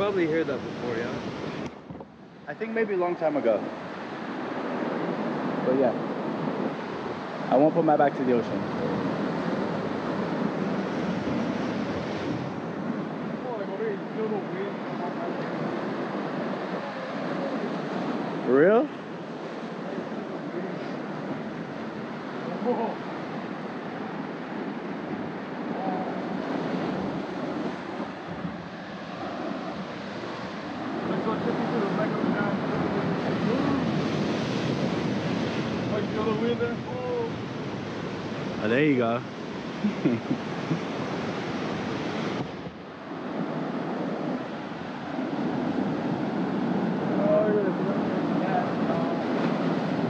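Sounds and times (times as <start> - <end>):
surf breaking over rocks: 0.0 - 50.0
wind buffeting microphone: 0.0 - 50.0.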